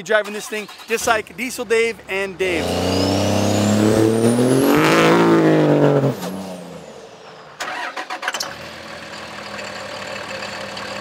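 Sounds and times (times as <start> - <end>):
diesel truck engine revving: 0.2 - 9.1.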